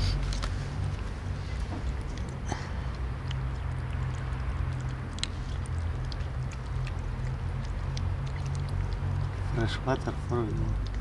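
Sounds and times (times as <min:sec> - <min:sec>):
kitten lapping water: 0:00.0 - 0:11.0.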